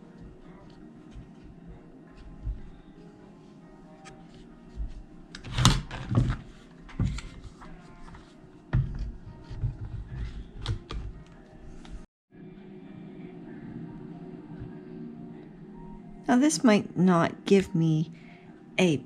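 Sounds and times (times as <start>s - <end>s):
soft background tune: 0.0s - 19.0s.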